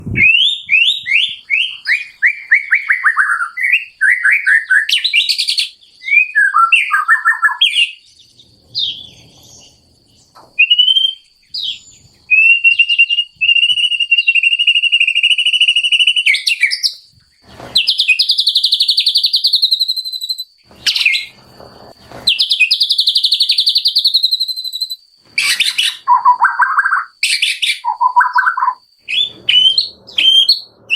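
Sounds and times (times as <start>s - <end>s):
songbird singing varied song: 0.0s - 30.9s.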